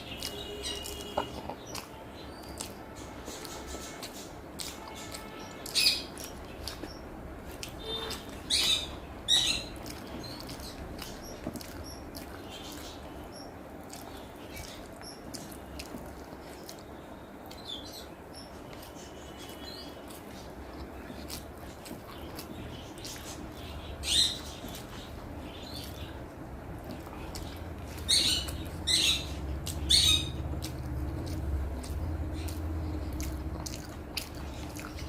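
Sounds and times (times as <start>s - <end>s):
lip smacks: 0.0s - 8.7s, 9.4s - 18.0s, 18.6s - 26.1s, 26.8s - 35.0s
wet chewing: 0.0s - 35.0s.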